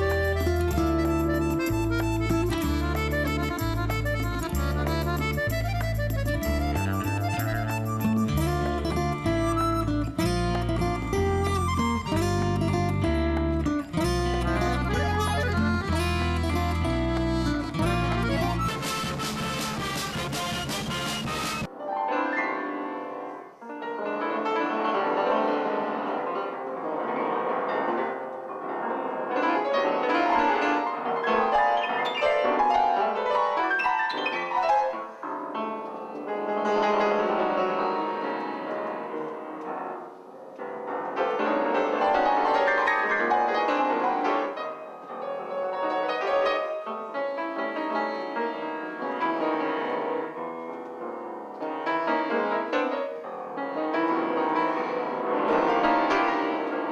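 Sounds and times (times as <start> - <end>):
solo piano music: 0.0 - 19.1, 21.6 - 56.9.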